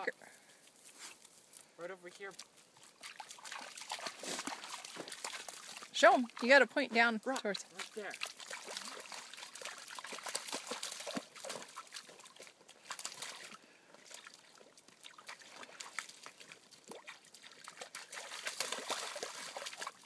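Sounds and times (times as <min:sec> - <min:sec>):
dogs splashing through puddle: 0:01.9 - 0:20.0.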